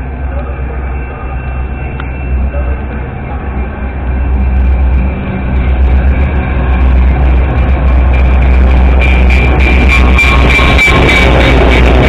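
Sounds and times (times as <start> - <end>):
locomotive engine rumble: 0.0 - 12.0.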